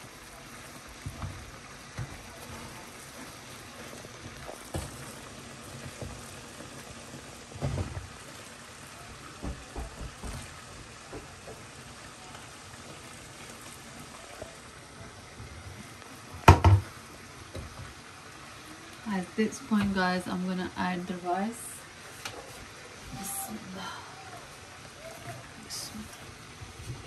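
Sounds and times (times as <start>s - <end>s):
pot of liquid boiling: 0.0s - 27.0s.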